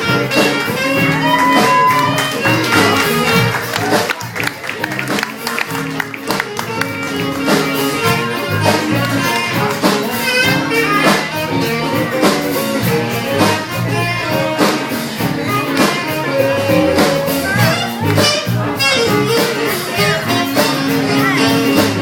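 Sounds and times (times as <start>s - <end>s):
bass: 0.0s - 22.0s
drum beat: 0.0s - 22.0s
guitar: 0.0s - 22.0s.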